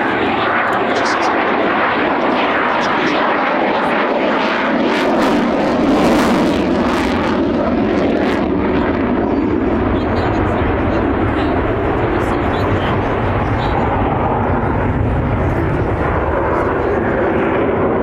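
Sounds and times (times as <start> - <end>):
loud jet engine noise: 0.0 - 18.0.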